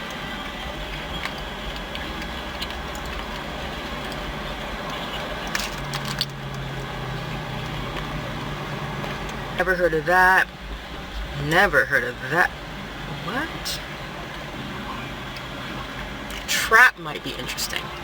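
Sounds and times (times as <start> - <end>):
car cabin rumble: 0.0 - 18.0
low steady hum: 0.0 - 18.0.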